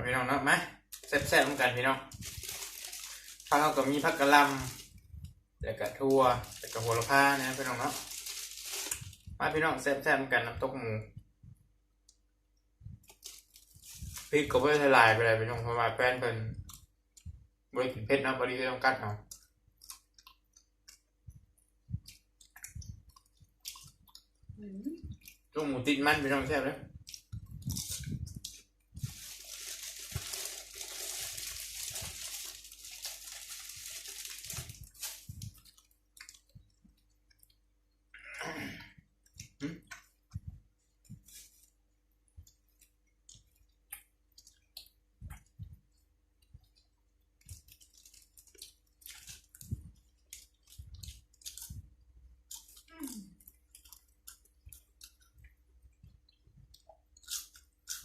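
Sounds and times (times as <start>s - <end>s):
chewing and crunching food: 0.9s - 9.4s, 12.8s - 14.9s, 16.5s - 17.6s, 19.1s - 38.1s, 38.9s - 58.0s.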